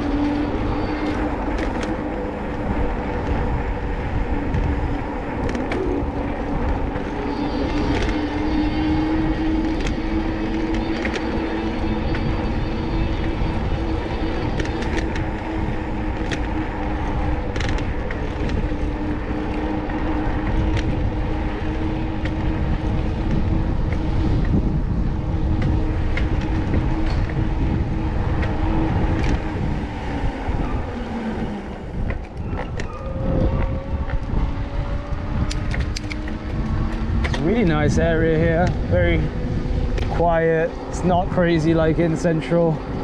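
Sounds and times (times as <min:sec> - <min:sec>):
road and wind rumble: 0:00.0 - 0:43.0.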